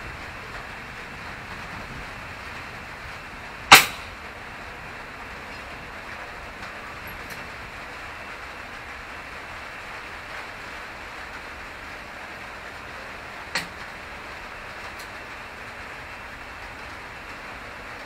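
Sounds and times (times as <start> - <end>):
rain hissing: 0.0 - 18.0
wind: 0.0 - 18.0.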